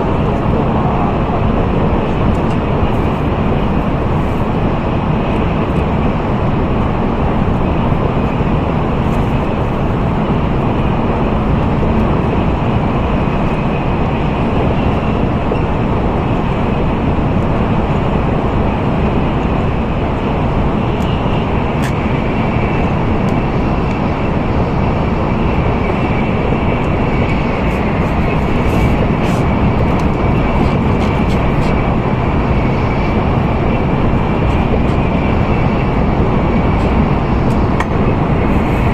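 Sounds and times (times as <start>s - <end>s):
train running at speed: 0.0s - 38.9s.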